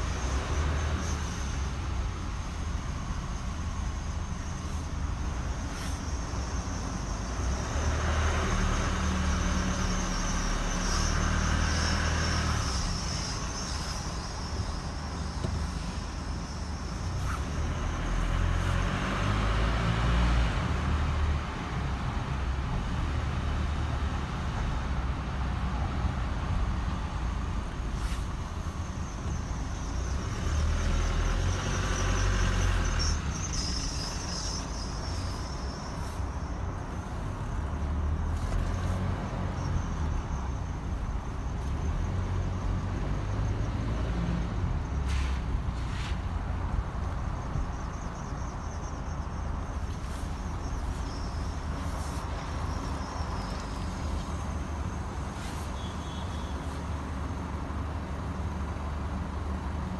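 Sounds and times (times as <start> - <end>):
vehicle running noise: 0.0 - 59.9.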